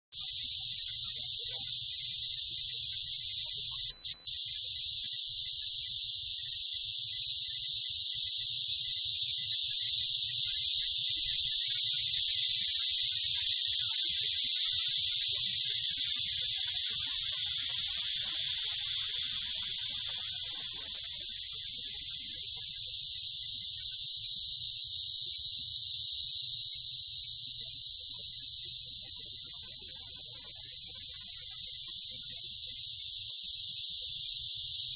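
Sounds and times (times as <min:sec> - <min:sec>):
high-pitched hiss: 0:00.2 - 0:32.4
thin steady tones: 0:00.2 - 0:32.7.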